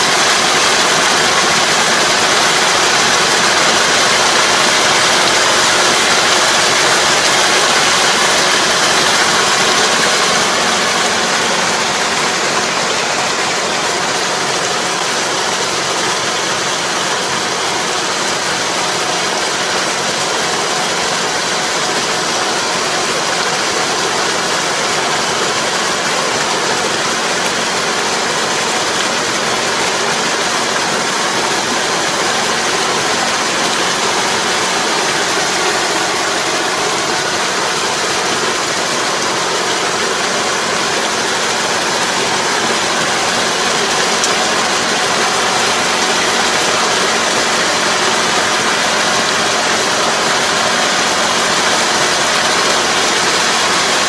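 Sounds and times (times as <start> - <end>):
harrow churning mud and water: 0.0 - 54.0
tractor diesel engine running: 0.0 - 54.0.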